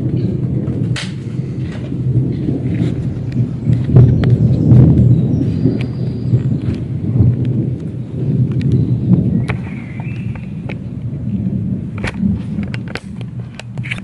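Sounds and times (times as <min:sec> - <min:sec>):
low thunder-like rumble: 0:00.0 - 0:14.0.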